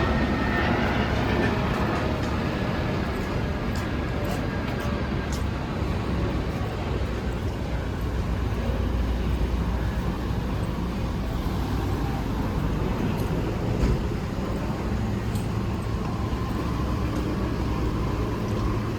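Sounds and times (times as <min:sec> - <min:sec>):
street traffic rumble: 0:00.0 - 0:18.9.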